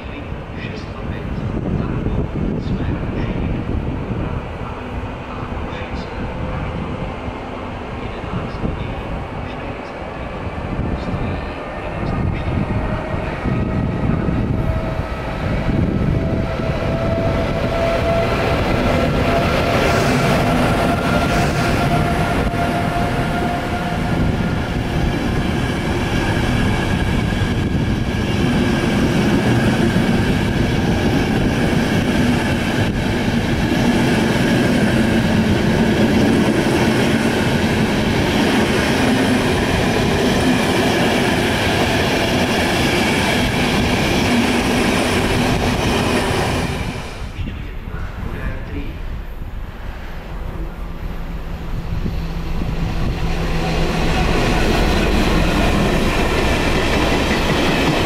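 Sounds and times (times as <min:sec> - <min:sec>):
electric locomotive whine: 0:00.0 - 0:58.0
train coaches rumbling on rails: 0:00.0 - 0:58.0.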